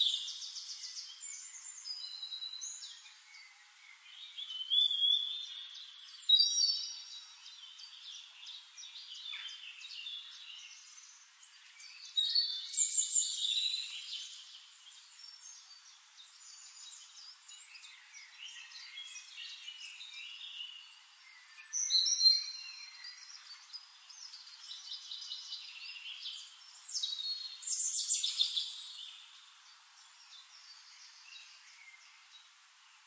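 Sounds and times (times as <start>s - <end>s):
birds chirping and singing: 0.0s - 32.5s.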